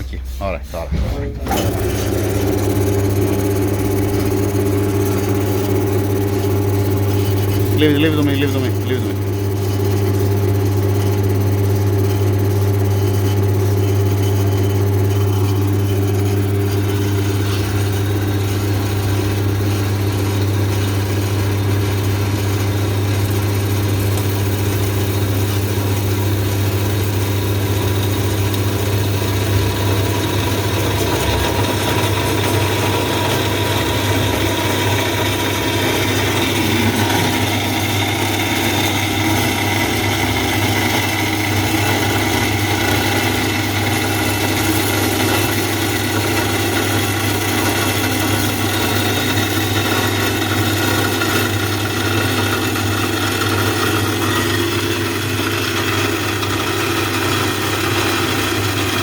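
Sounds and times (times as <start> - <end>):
low motor hum: 0.0 - 50.4
electric metal-cutting saw: 1.4 - 59.0.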